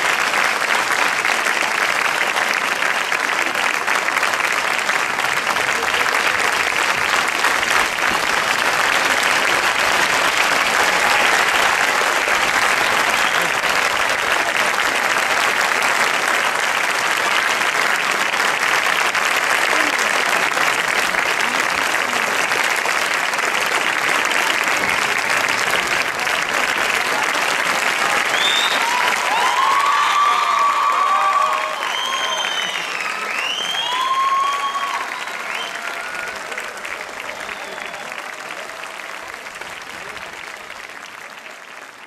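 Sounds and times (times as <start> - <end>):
audience applauding: 0.0 - 42.0.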